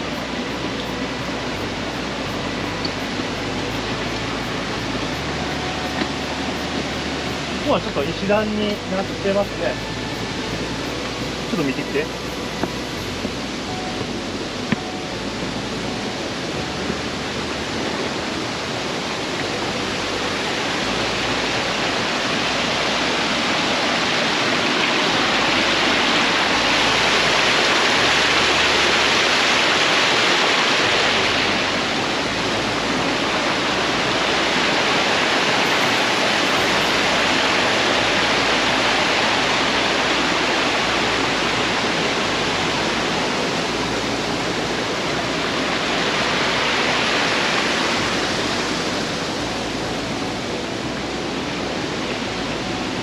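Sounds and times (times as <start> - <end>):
stream water rushing and splashing: 0.0 - 53.0.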